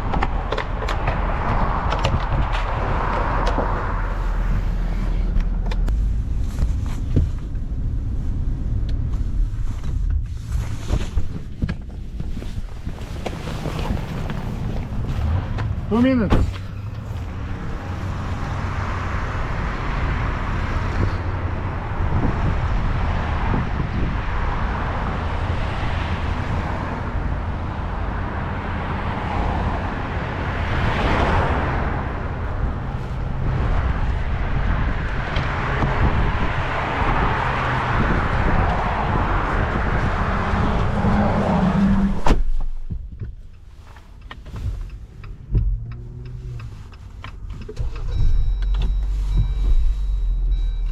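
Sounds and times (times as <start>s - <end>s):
truck engine drone and road noise: 0.0s - 50.9s.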